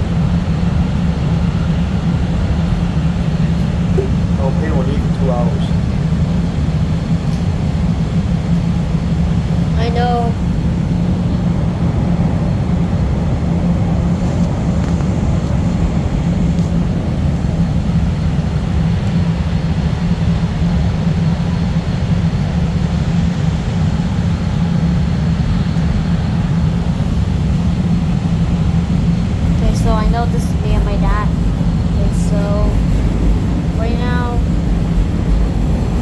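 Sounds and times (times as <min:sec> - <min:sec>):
low hum: 0:00.0 - 0:36.0
subway train rumbling: 0:00.0 - 0:36.0.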